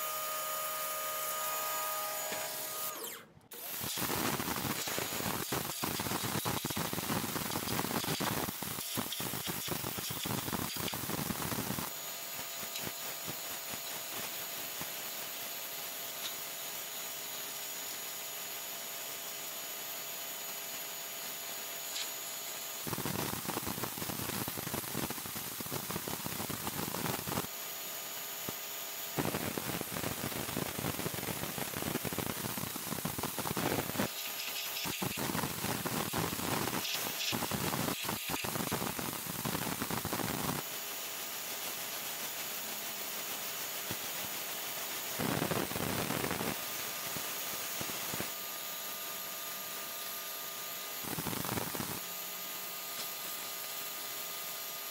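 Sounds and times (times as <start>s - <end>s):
pressure washer spraying concrete: 3.5s - 54.9s.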